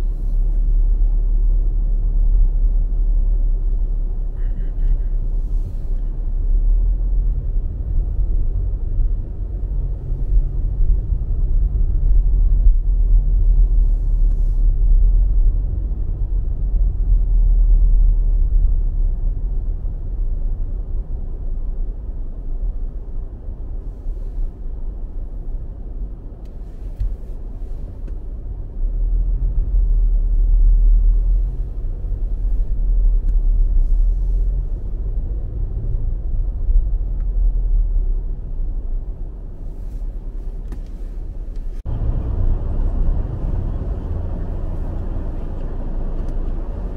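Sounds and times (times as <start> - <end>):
car engine: 0.0 - 46.9
road and tyre noise: 0.0 - 46.9.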